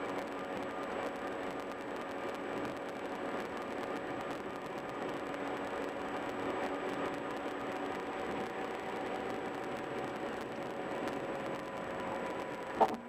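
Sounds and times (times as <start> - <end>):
car road noise at highway speed: 0.0 - 13.0.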